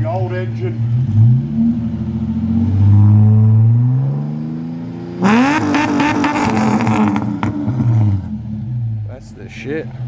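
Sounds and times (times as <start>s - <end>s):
car engine revving with clatter: 0.7s - 10.0s.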